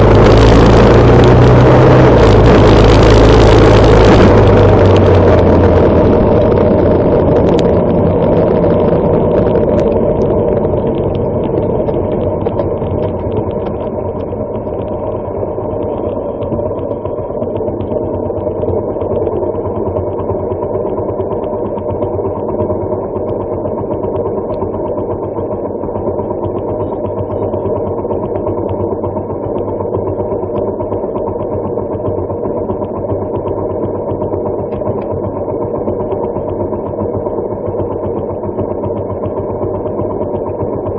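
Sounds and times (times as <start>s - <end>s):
motorcycle engine idling: 3.2s - 40.9s.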